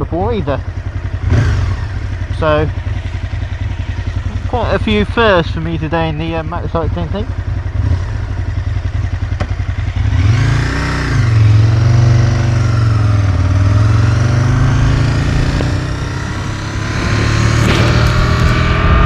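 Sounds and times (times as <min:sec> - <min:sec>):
motorcycle engine under throttle: 0:00.0 - 0:19.0.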